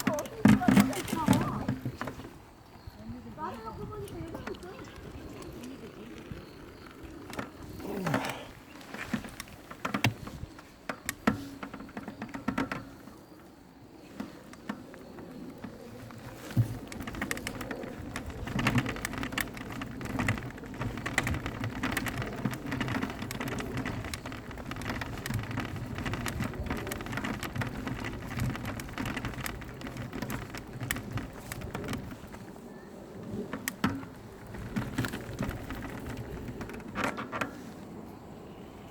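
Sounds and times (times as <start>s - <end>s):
tyres crunching over stones: 0.0s - 13.4s, 14.0s - 37.6s
bike rattling and clicking: 0.0s - 38.9s.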